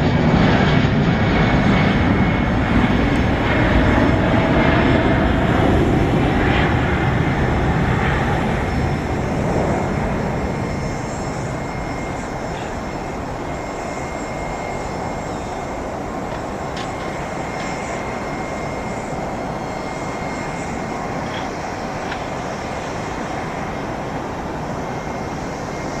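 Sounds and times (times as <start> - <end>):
jet engines roaring at takeoff: 0.0 - 26.0.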